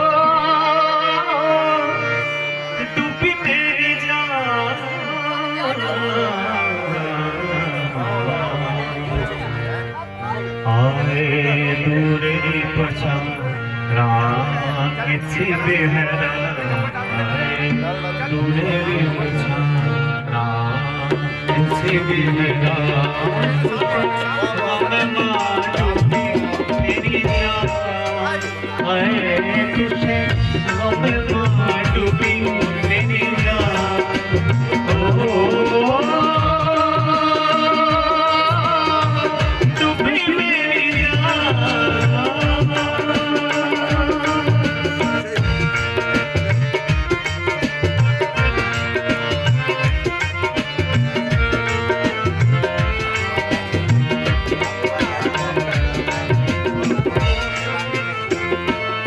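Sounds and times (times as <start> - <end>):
harmonium: 0.0 - 59.0
man singing: 0.0 - 59.0
tabla drums: 0.0 - 59.0.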